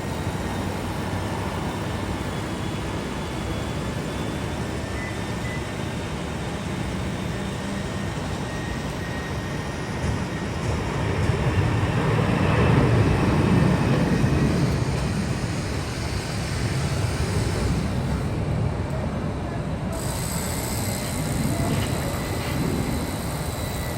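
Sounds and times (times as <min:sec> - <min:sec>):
jet airliner passing: 0:00.0 - 0:23.9.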